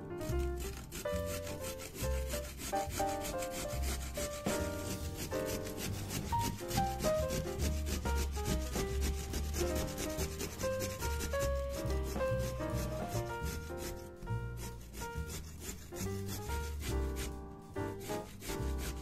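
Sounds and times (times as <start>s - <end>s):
background music: 0.0s - 19.0s
carrot grating on metal grater: 0.2s - 19.0s.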